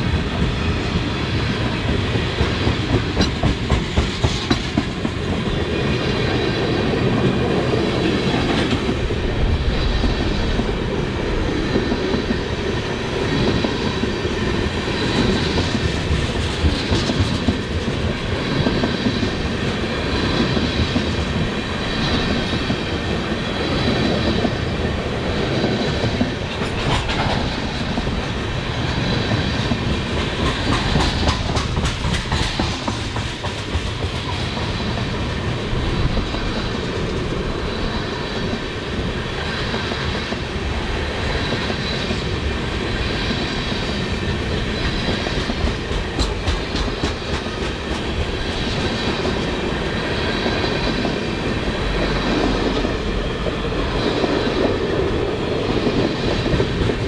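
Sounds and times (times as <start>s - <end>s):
train wheels clicking over rail joints: 0.0s - 57.0s.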